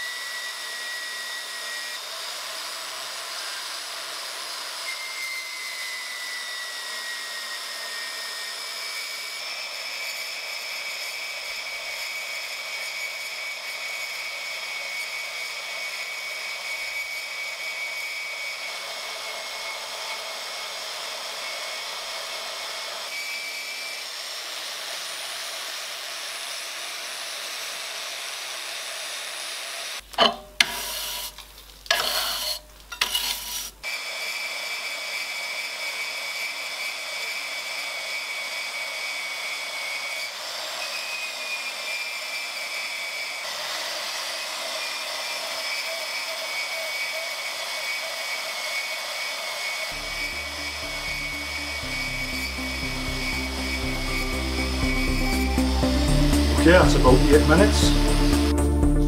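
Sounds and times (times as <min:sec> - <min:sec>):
bandsaw cutting metal: 0:00.0 - 0:59.0.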